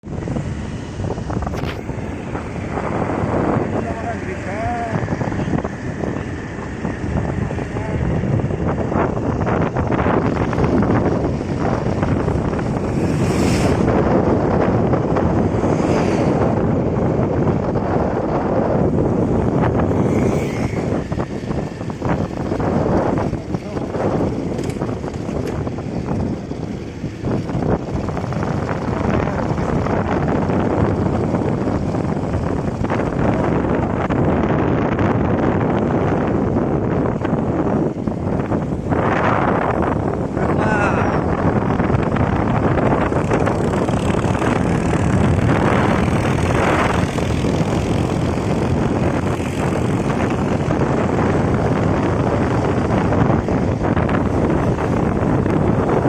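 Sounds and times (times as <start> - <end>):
bike riding noise: 0.0 - 56.0
wind buffeting microphone: 0.0 - 56.0.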